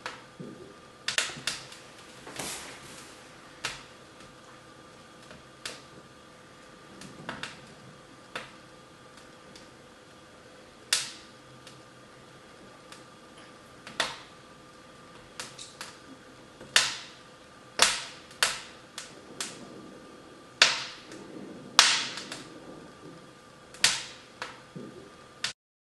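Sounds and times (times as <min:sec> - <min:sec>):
wood fire crackling: 0:00.0 - 0:25.6.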